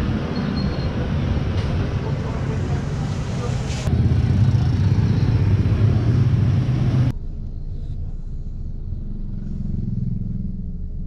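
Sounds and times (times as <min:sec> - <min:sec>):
street market noise: 0:00.0 - 0:11.0.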